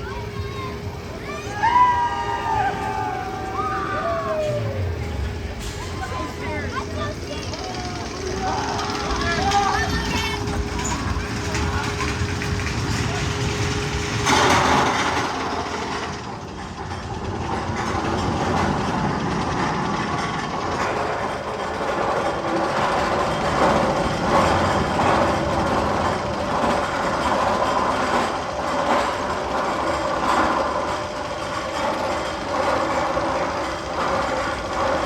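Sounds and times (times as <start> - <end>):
roller coaster train on track: 0.0 - 35.0.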